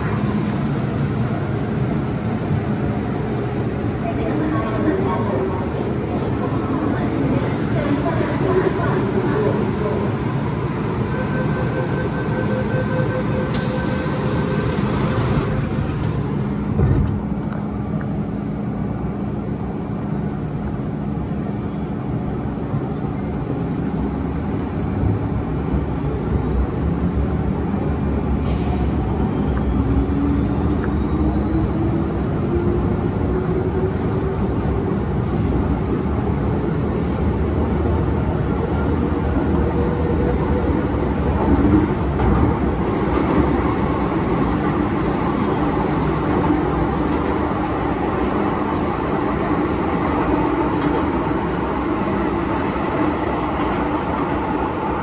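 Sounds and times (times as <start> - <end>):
train wheel and track noise: 0.0 - 55.0.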